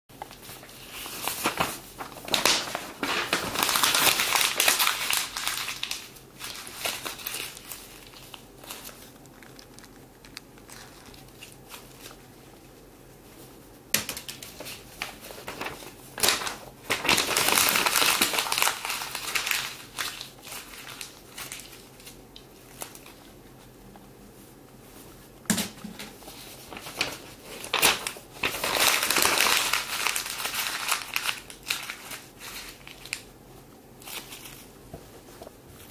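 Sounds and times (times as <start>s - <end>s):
paper being crumpled: 0.1s - 13.4s, 14.0s - 23.3s, 26.2s - 33.3s, 34.0s - 35.9s.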